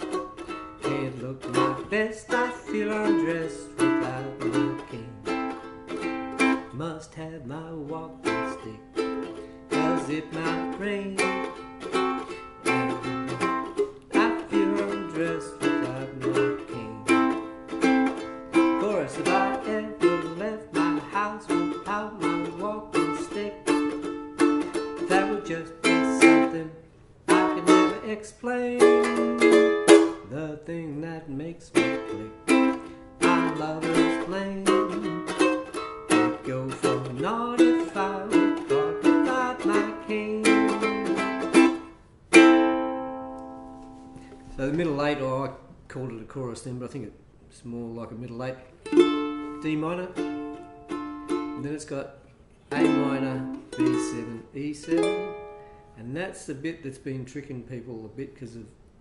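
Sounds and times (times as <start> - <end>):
ukulele strumming chords: 0.0 - 45.4, 48.7 - 56.0.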